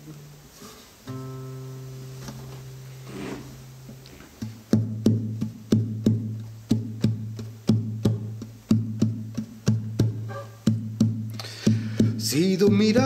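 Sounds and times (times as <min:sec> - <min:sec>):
nylon-string guitar strumming: 0:00.0 - 0:13.0.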